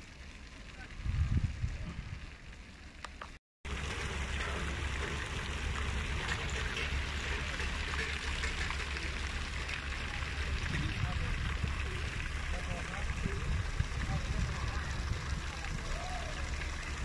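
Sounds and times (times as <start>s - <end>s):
fountain water splashing into basin: 0.0s - 17.0s.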